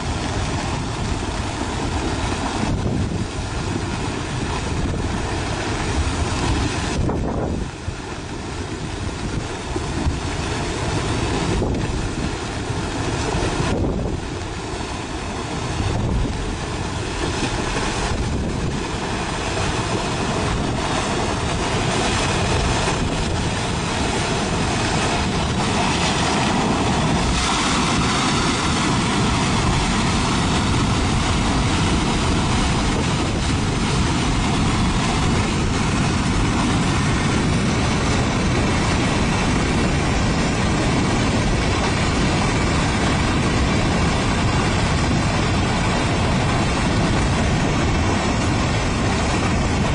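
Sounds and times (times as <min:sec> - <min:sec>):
mud and boulders rushing: 0:00.0 - 0:49.9.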